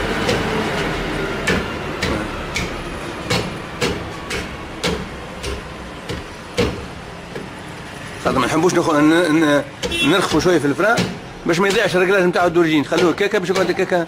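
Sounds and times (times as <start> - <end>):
hammer tapping on metal: 0.2 - 7.5, 9.7 - 13.9.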